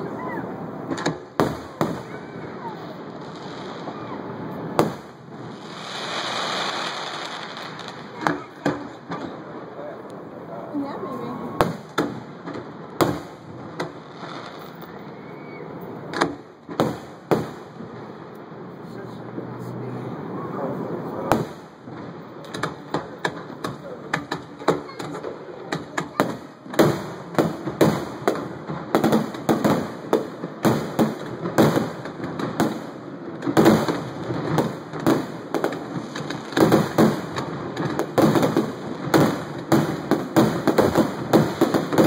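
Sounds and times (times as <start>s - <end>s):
fireworks bursting with sharp bangs: 0.0s - 19.6s, 20.2s - 42.0s.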